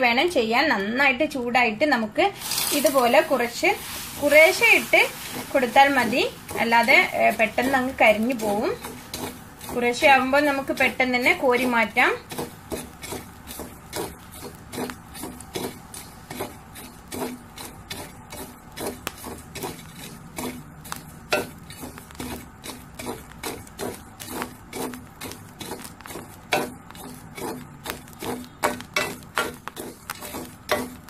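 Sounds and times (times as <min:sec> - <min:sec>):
metal spatula scraping salt in pan: 0:02.3 - 0:31.0.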